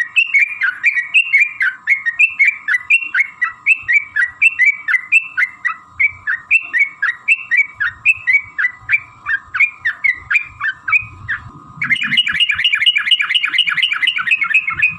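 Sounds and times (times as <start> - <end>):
bird chattering song: 0.0 - 14.9.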